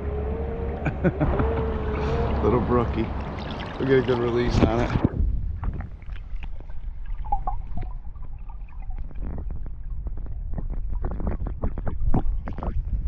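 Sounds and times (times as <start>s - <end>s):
muffled underwater river rumble: 0.0s - 13.0s
water gurgling: 1.1s - 13.0s
small bubble clicks: 2.0s - 13.0s.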